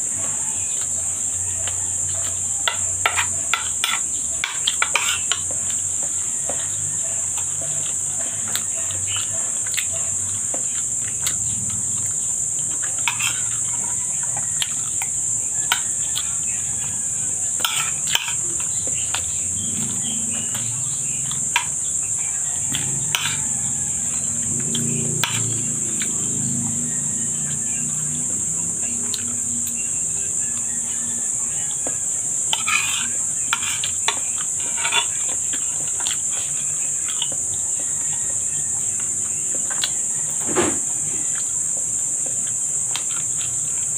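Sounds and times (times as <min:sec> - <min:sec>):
crickets chirring: 0:00.0 - 0:43.9
eating sounds: 0:00.0 - 0:43.9.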